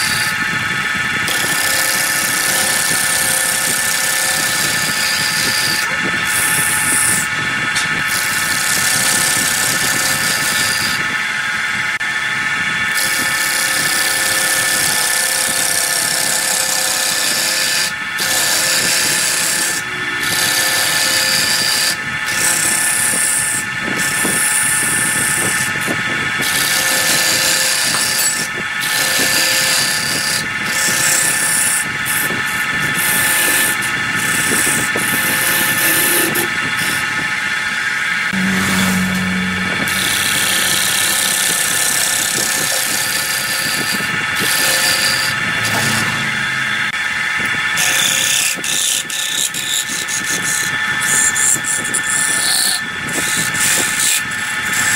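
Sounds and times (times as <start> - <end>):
wood lathe running: 0.0 - 54.9
gouge cutting wood shavings: 1.3 - 11.0, 12.9 - 37.1, 38.3 - 46.2, 47.6 - 54.9.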